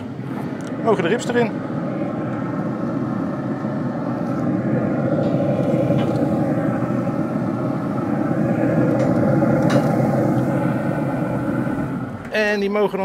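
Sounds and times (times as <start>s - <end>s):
pellet grill fan humming: 0.0s - 13.0s.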